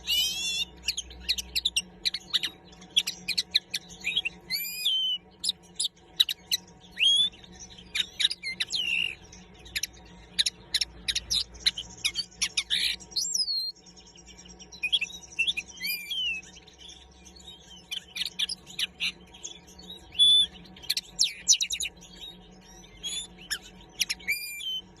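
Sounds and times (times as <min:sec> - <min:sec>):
bird twittering and trilling: 0:00.0 - 0:25.0.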